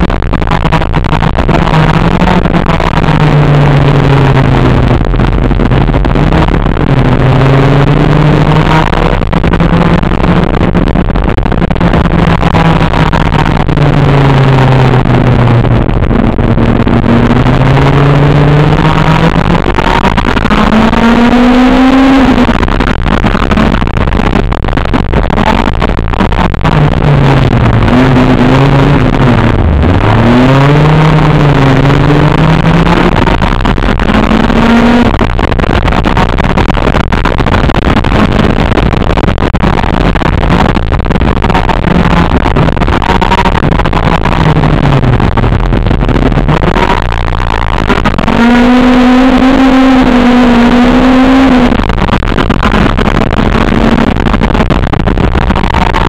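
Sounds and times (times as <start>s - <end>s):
car engine revving: 0.0s - 56.0s
road noise: 0.0s - 56.0s.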